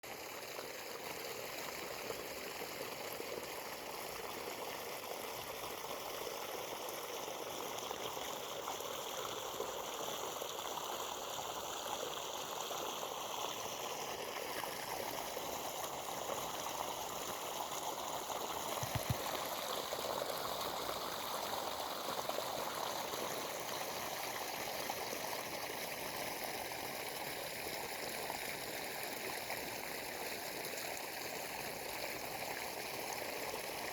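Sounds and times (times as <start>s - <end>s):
flowing stream water: 0.0s - 33.9s.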